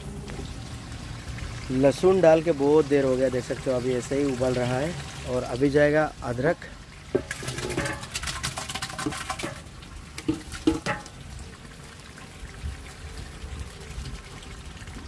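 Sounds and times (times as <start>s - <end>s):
steady bubbling: 0.0s - 15.0s.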